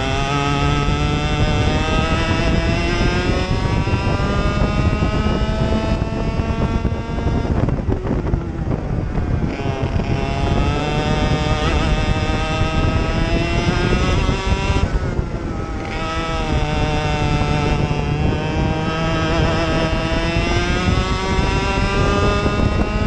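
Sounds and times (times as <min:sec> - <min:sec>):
kart engine accelerating: 0:00.0 - 0:23.0.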